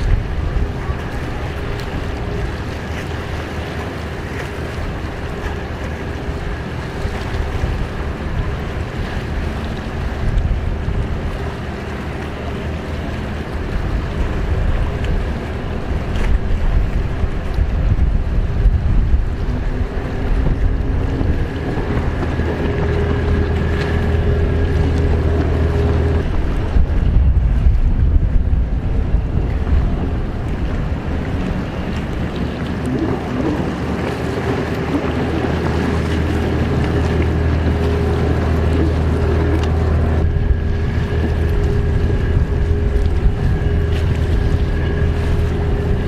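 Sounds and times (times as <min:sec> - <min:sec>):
jet ski engine whine: 0:00.0 - 0:46.0
wind buffeting microphone: 0:00.0 - 0:46.0.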